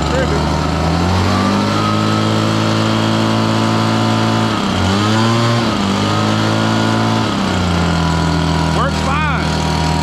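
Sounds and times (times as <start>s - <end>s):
leaf blower engine revving: 0.0s - 10.0s.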